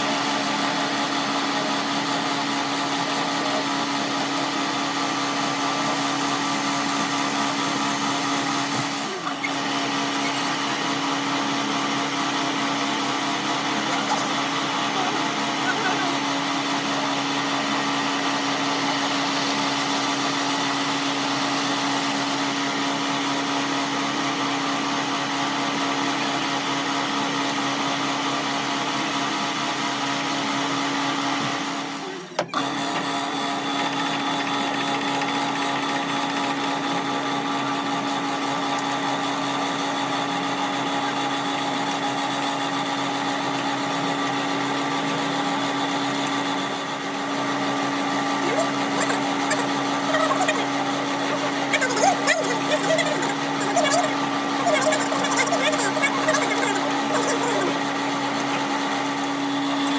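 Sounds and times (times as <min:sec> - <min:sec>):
workshop machine humming: 0:00.0 - 0:59.9.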